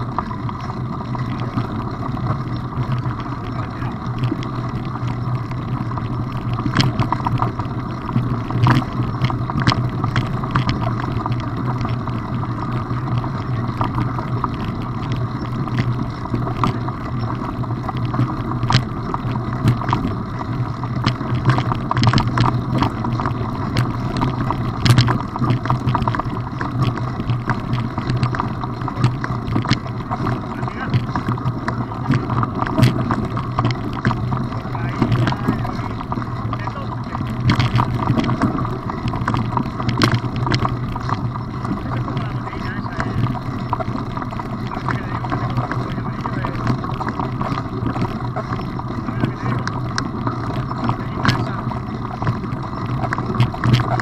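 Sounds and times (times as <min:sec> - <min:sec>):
bike tyres rumbling on gravel: 0:00.0 - 0:54.0
stones and bike rattling: 0:00.0 - 0:54.0.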